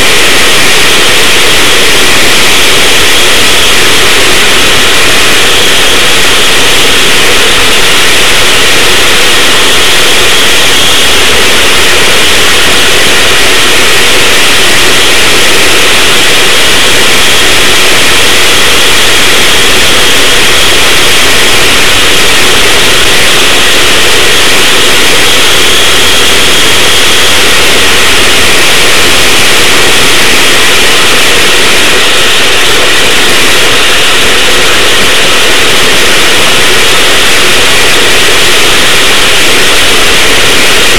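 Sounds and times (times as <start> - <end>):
distorted go-kart engine: 0.0 - 40.9.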